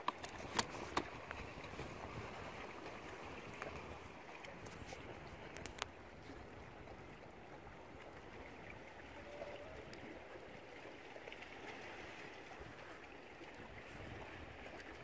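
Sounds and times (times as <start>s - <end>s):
water trickling around canoe: 0.0s - 15.0s.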